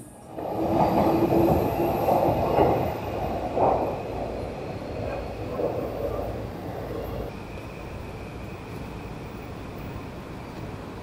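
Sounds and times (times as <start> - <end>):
train rumbling over a viaduct: 0.0 - 11.0.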